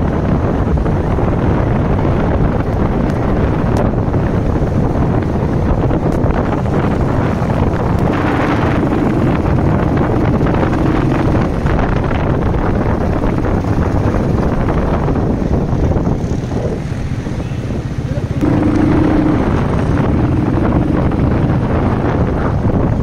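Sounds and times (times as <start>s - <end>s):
wind rushing over microphone: 0.0s - 23.0s
motorcycle engine running: 0.1s - 23.0s.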